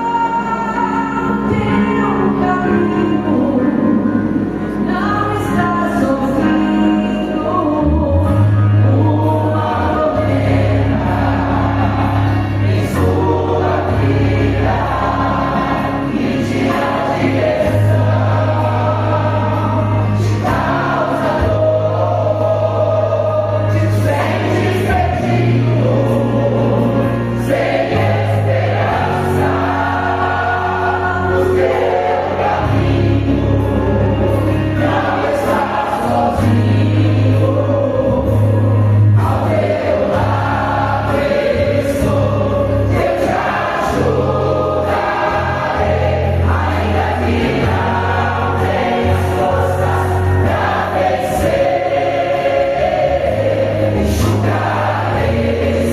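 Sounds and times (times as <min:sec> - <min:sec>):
choir singing gospel: 0:00.0 - 0:55.9
deep bass line: 0:07.8 - 0:55.9.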